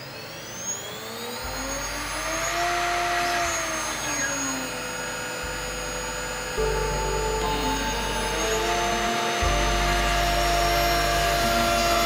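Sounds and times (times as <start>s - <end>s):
cutter skimming wood: 0.0s - 12.0s
router spindle whine: 0.0s - 12.0s
stepper motors whining: 0.0s - 12.0s.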